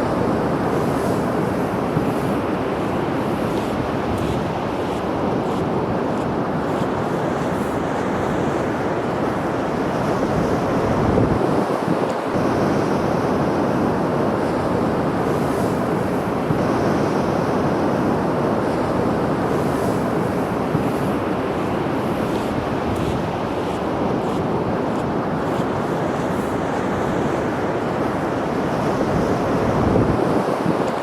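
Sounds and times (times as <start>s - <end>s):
wind: 0.0s - 31.0s.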